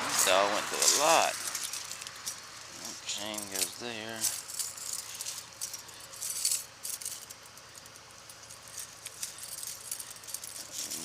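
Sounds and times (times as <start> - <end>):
metal chain clinking: 0.2 - 11.0.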